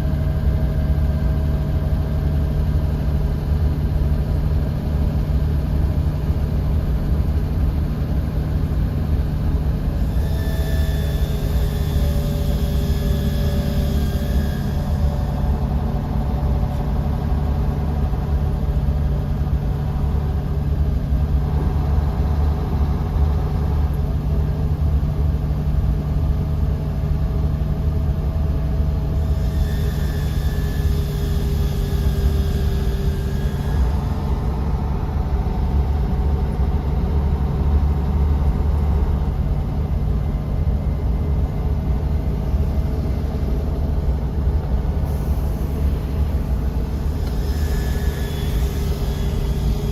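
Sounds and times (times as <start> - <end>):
bus engine and road rumble: 0.0 - 49.9
faint whining tones: 0.0 - 49.9.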